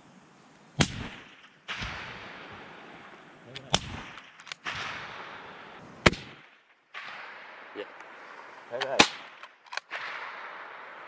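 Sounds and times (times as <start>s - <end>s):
rifle shots with rolling echo: 0.7s - 11.0s.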